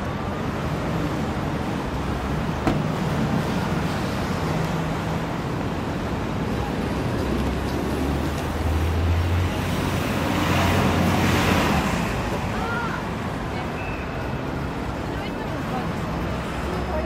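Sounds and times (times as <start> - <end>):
road traffic noise: 0.0 - 17.0
rush of passing traffic: 0.0 - 17.0.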